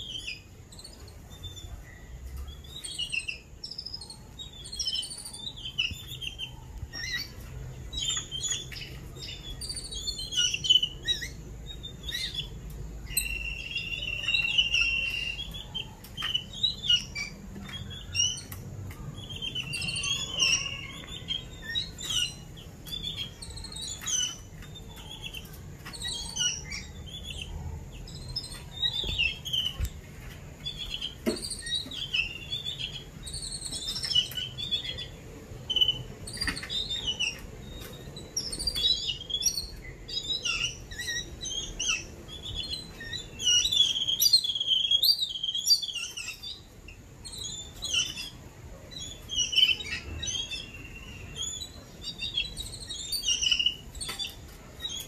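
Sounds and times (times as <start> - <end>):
birds calling with harsh chirps: 0.0 - 55.0.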